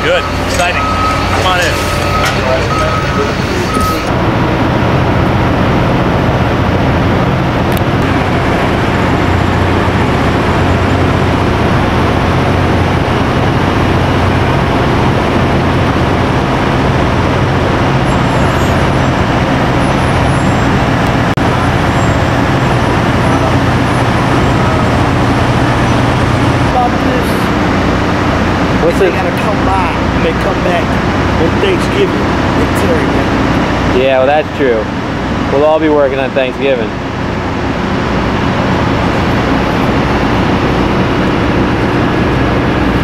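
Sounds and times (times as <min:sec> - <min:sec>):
heavy machinery droning: 0:00.0 - 0:43.0.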